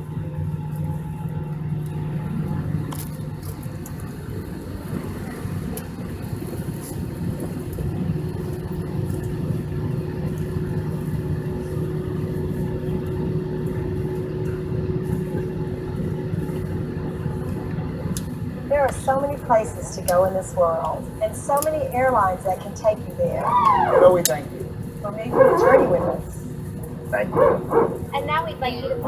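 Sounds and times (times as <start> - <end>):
airplane cabin hum: 0.0 - 29.0
faint steady whine: 0.0 - 29.0.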